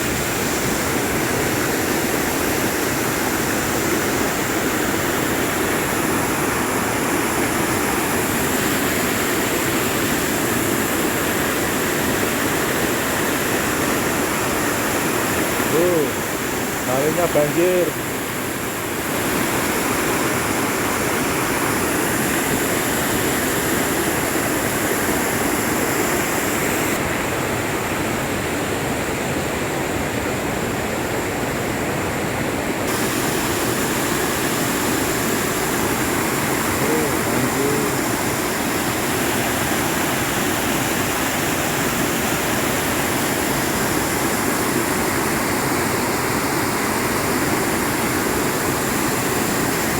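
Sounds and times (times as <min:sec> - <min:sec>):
river rushing: 0:00.0 - 0:49.9.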